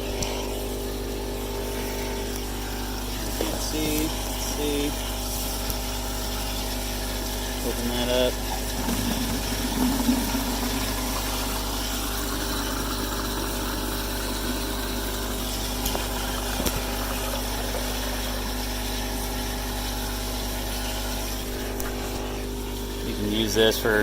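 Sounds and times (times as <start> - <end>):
motor hum: 0.0 - 24.0
water rushing from drain: 0.0 - 24.0.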